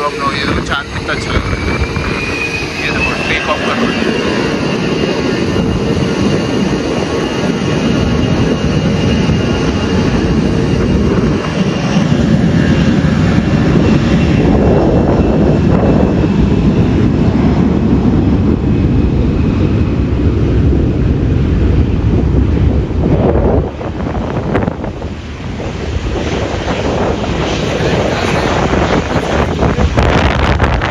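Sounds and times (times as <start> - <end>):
faint high engine whine: 0.0 - 30.8
jet engines rumbling: 0.0 - 30.9.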